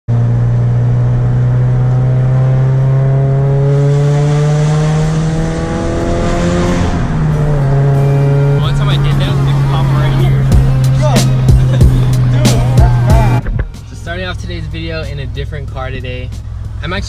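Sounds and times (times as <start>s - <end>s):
car engine droning: 0.1s - 17.0s.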